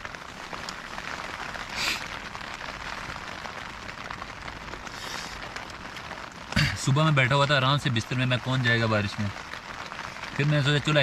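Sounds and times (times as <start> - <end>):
rain pattering on tent fabric: 0.0 - 11.0.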